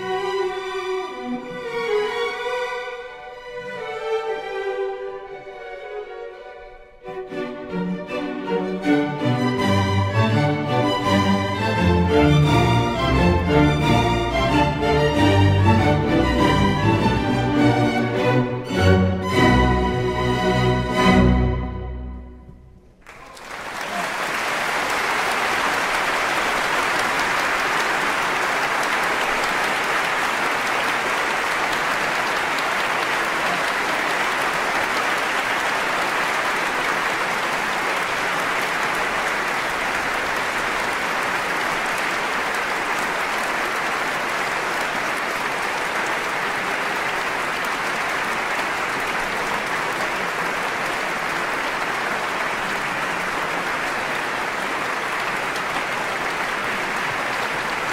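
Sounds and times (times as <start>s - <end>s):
audience applauding: 8.0s - 21.8s, 22.8s - 57.9s.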